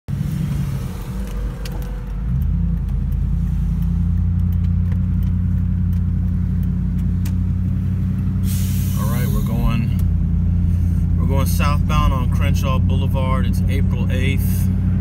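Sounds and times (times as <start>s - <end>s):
car engine and road drone: 0.1s - 15.0s.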